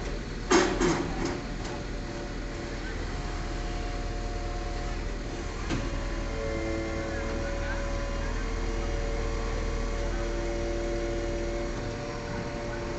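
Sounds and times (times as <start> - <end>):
crane engine running: 0.0 - 12.9.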